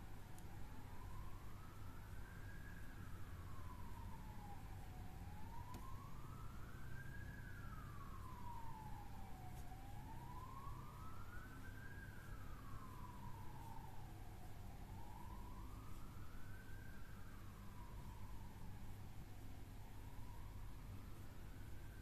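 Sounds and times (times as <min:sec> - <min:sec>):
faint siren wailing: 0:00.0 - 0:22.0.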